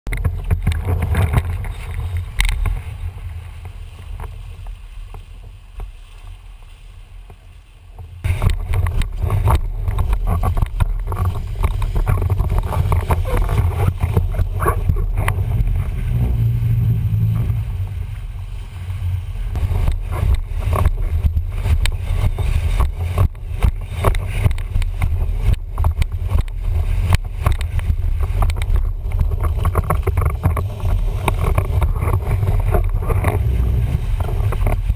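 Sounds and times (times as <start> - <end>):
board and rig knocking: 0.1 - 6.0, 8.0 - 34.9
low rumble: 0.1 - 34.9
water rushing and splashing: 0.1 - 34.9.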